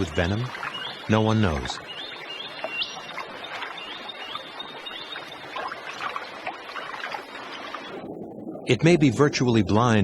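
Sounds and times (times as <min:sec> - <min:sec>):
small splashes: 0:00.0 - 0:08.1
water trickling and lapping: 0:00.0 - 0:10.0.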